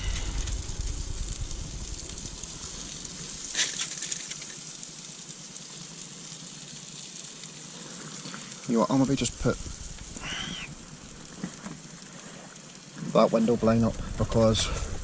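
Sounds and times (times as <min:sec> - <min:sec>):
peppers sizzling in a pan: 0:00.0 - 0:15.0.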